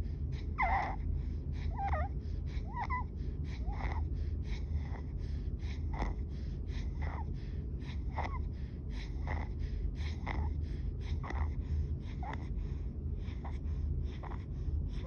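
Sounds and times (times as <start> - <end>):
baby stridor breathing: 0.0 - 15.0
steady low hum: 0.0 - 15.0.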